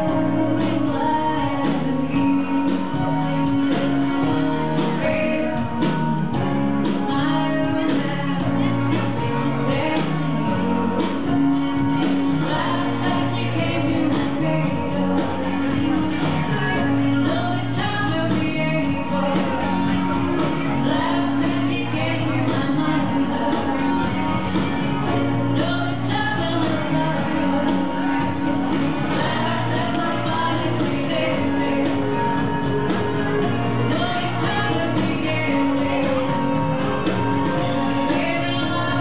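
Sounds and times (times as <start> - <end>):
woman singing with instruments: 0.0 - 39.0.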